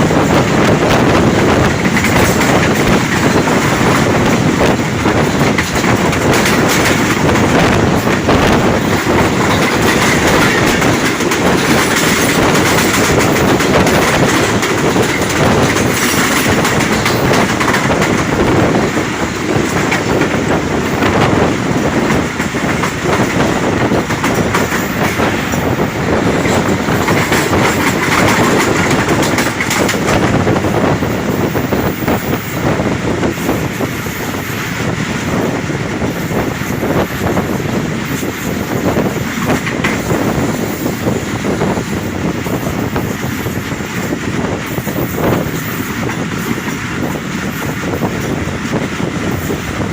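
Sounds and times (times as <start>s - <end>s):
railcar running on rails: 0.0s - 49.9s
wheels clattering over rail joints: 0.0s - 49.9s.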